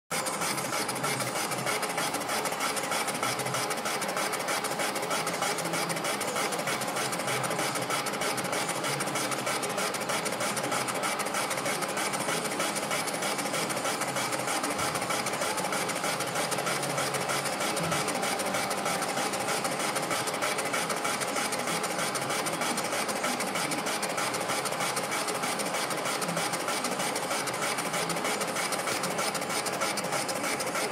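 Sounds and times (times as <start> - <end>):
milling machine hum: 0.1 - 30.9.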